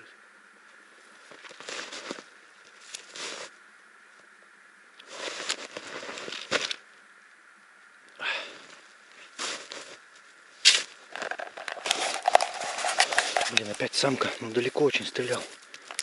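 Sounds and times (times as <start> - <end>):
rustling through undergrowth: 0.6 - 7.1, 8.4 - 16.0.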